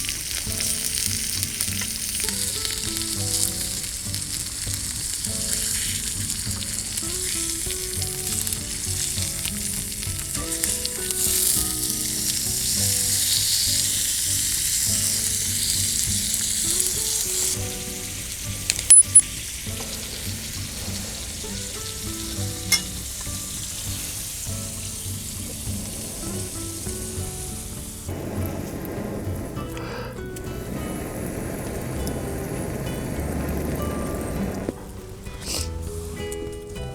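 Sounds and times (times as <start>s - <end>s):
food sizzling in frying pan: 0.0s - 36.8s.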